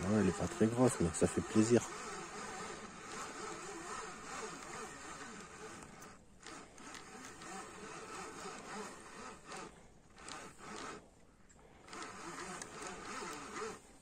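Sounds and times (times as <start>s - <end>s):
fishing reel whirring: 0.0s - 14.0s.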